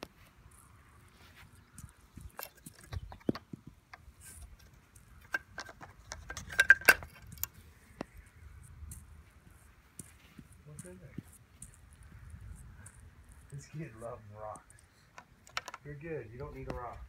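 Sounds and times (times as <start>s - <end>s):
golf balls clicking together: 1.5s - 17.0s.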